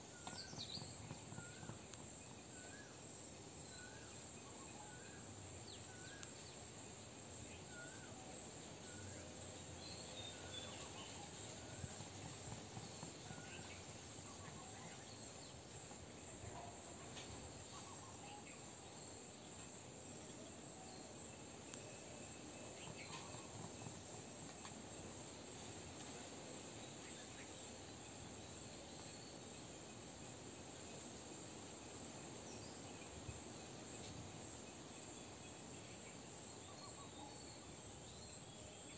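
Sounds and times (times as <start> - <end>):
crickets chirping chorus: 0.0 - 38.9.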